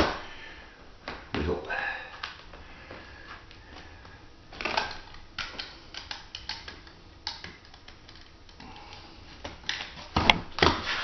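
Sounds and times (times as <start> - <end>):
vinyl flooring clicks and crackles: 1.0 - 11.0.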